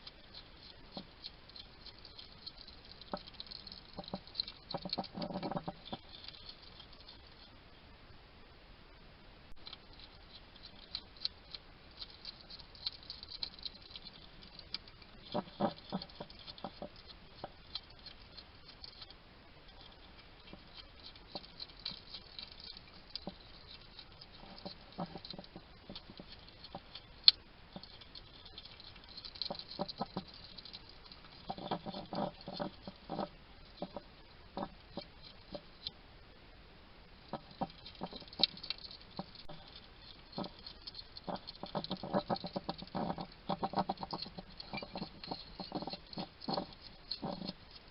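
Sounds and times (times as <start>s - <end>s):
hedgehog chewing: 0.0s - 7.6s, 9.5s - 36.0s, 37.1s - 47.9s.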